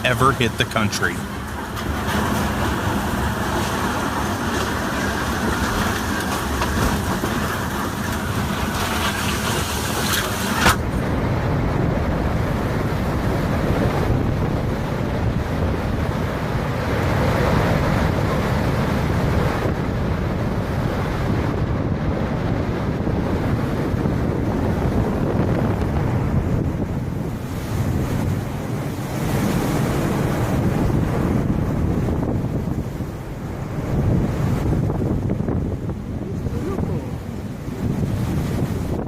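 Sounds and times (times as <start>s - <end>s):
dull wind rumble: 0.0s - 39.0s
strong wind on microphone: 0.7s - 39.0s.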